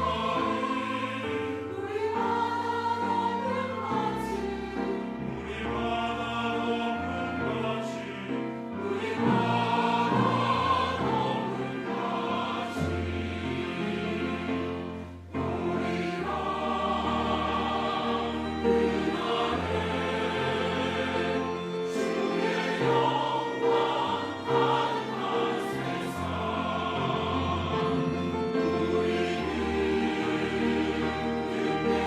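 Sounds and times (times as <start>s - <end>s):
church choir singing: 0.0s - 32.0s
instrumental accompaniment: 0.0s - 32.0s.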